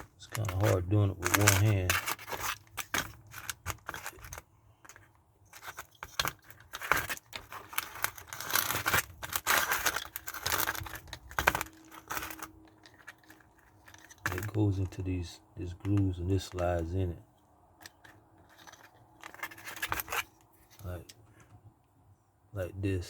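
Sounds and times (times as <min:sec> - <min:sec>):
plastic parts clicking: 0:00.0 - 0:15.0, 0:15.8 - 0:16.7, 0:17.8 - 0:21.5
rustling: 0:00.0 - 0:15.0, 0:17.8 - 0:21.6
parts scraping: 0:00.0 - 0:21.6.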